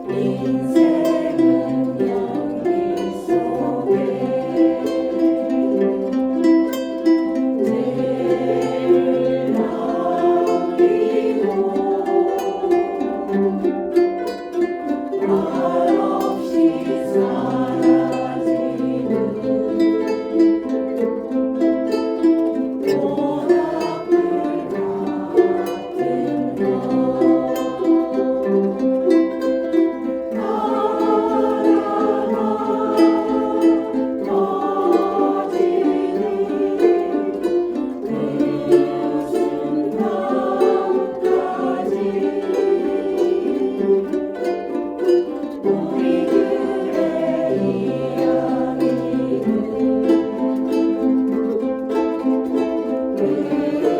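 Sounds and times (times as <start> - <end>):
ukulele ensemble playing: 0.0 - 53.9.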